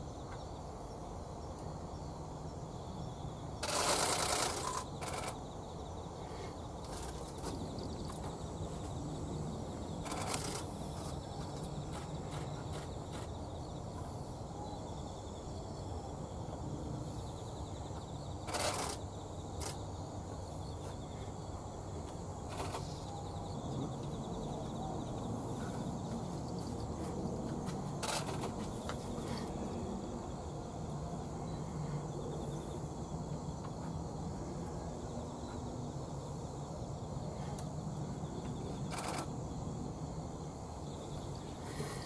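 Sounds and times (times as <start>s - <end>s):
low background noise: 0.0s - 42.0s.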